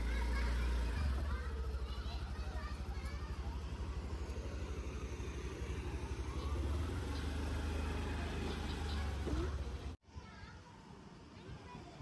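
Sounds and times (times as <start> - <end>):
scooter engine idling: 0.0 - 10.0.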